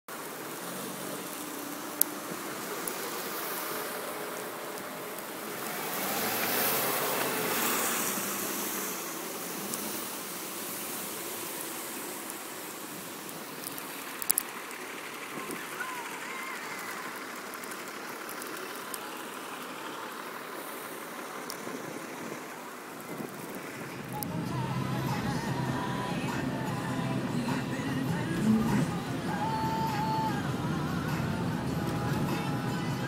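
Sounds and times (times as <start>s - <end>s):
tyres hissing through slush: 0.1s - 33.0s.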